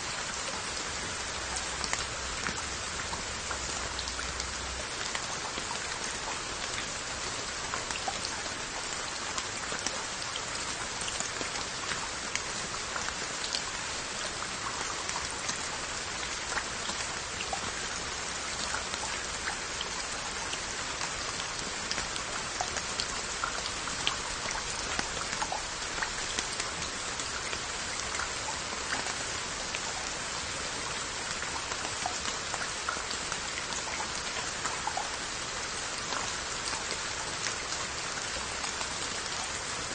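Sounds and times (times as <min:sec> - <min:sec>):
raindrops ticking on pottery: 0:00.1 - 0:39.9.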